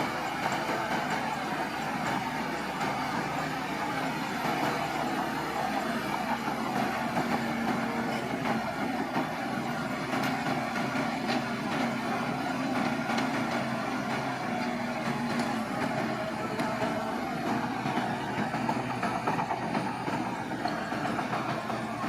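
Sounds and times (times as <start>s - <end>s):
diesel engine running: 0.0s - 22.0s
tracks clicking metallically: 0.0s - 22.0s.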